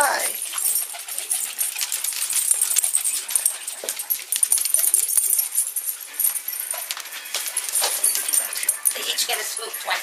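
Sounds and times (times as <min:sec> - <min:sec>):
rustling: 0:00.4 - 0:09.0.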